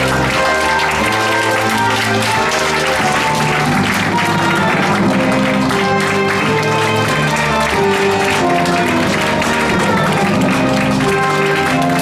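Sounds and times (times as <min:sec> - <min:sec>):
audience applause: 0:00.0 - 0:12.0
orchestra playing: 0:00.0 - 0:12.0.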